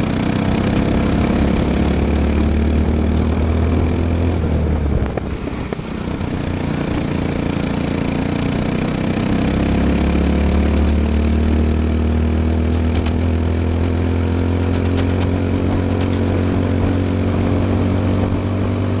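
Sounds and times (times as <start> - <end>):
kart engine running at low revs: 0.0 - 19.0.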